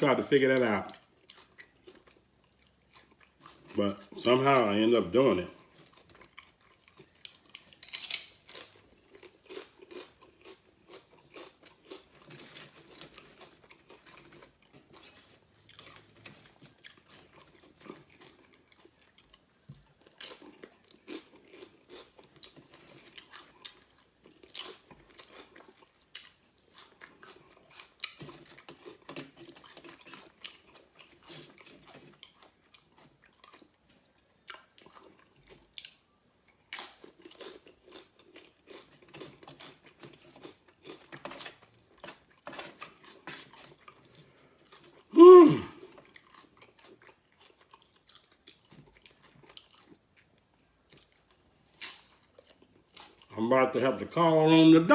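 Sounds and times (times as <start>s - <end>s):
person chewing crunchy chips: 0.1s - 54.9s.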